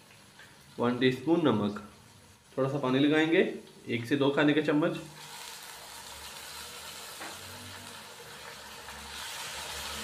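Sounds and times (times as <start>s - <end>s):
masala sizzling in hot oil: 0.0s - 10.0s.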